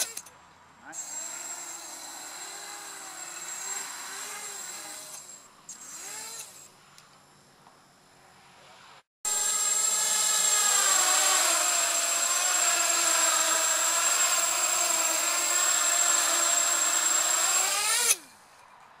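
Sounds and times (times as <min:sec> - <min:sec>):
quadcopter motors buzzing whine: 0:00.0 - 0:06.7, 0:09.3 - 0:18.4.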